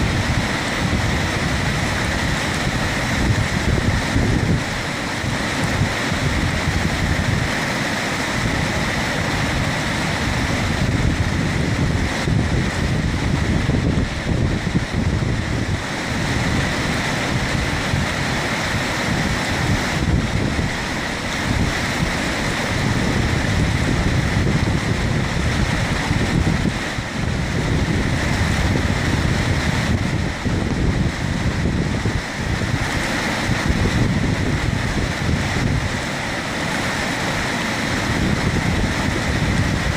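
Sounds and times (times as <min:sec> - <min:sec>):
river rapids rushing: 0:00.0 - 0:39.9
wind buffeting on microphone: 0:00.0 - 0:39.9.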